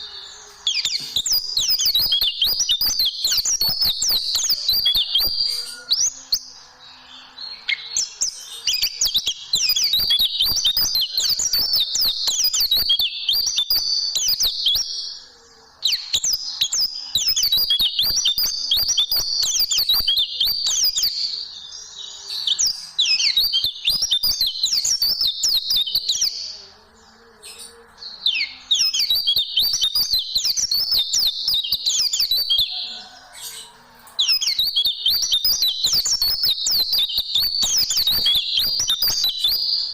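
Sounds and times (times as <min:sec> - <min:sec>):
bird singing rapid chattering phrases: 0:00.0 - 0:39.9.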